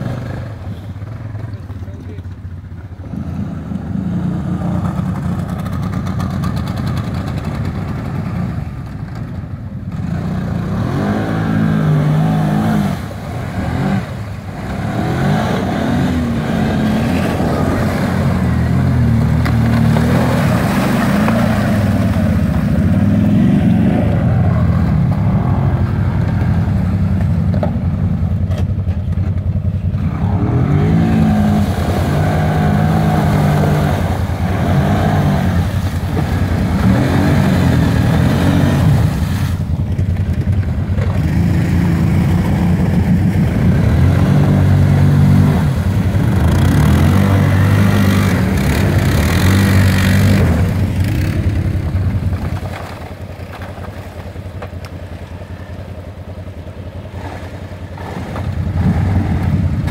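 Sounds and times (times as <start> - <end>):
quad bike engine revving: 0.0 - 2.2, 3.0 - 9.0, 9.9 - 28.8, 29.9 - 52.9, 56.9 - 59.9
wheels spinning through slush: 3.0 - 59.9.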